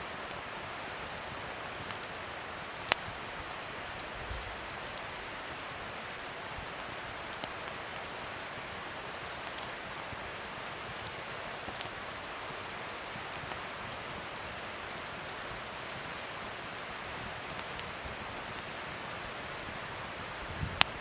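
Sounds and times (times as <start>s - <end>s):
wood fire crackling: 0.0s - 21.0s
fire pops: 0.1s - 21.0s.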